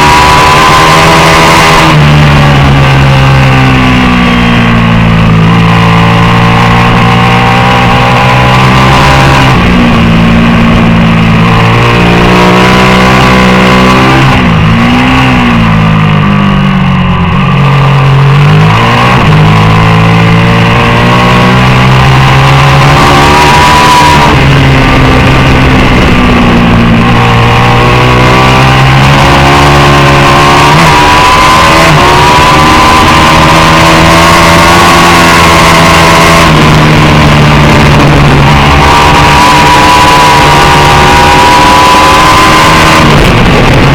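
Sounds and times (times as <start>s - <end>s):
racing motorcycle engine revving: 0.0s - 43.9s.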